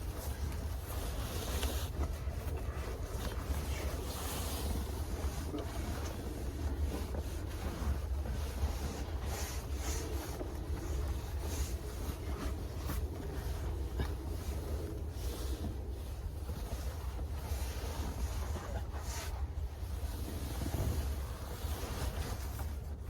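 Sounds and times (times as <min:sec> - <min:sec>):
soft rustles and taps: 0:00.0 - 0:23.0
wind rumble on microphone: 0:00.0 - 0:23.0.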